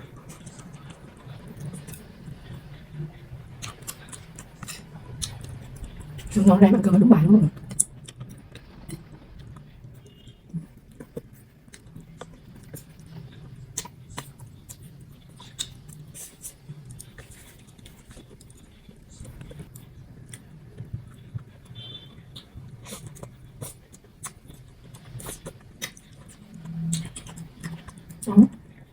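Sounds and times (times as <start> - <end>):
chewing with mouth clicks: 0.3 - 6.4, 7.6 - 28.3.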